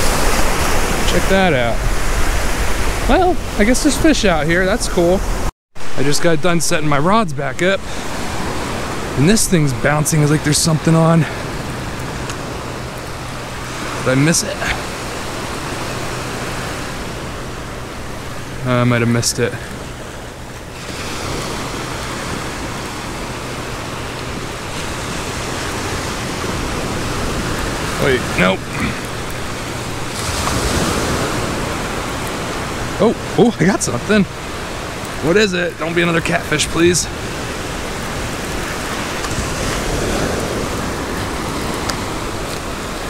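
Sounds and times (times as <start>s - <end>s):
small waves washing on sand: 0.0s - 43.0s.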